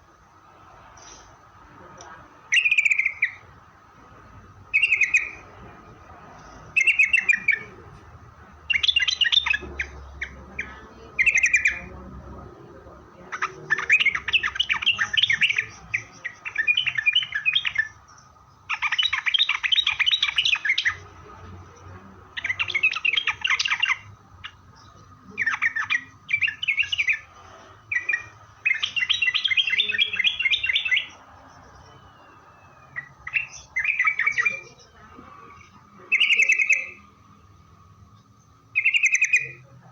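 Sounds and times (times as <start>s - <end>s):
bulbul singing: 0.0s - 39.9s
faint steady tone: 0.0s - 39.9s.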